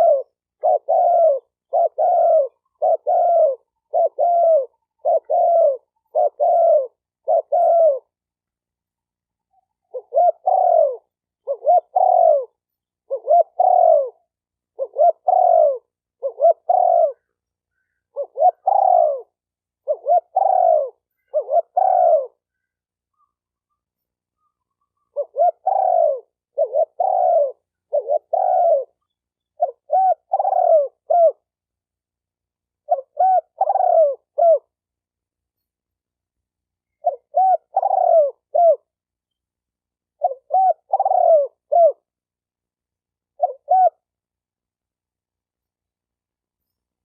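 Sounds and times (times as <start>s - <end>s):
dove cooing: 0.0s - 8.2s, 9.5s - 31.6s, 32.8s - 34.9s, 36.9s - 39.0s, 40.1s - 42.2s, 43.2s - 44.3s.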